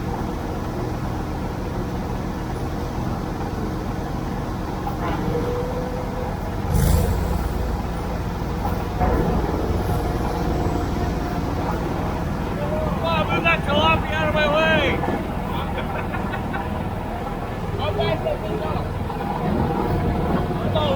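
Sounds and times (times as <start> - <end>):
tractor engine droning: 0.0 - 20.9.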